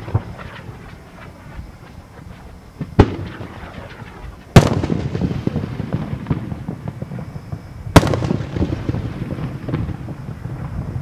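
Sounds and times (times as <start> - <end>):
rumbling tail with small pops: 0.0 - 11.0.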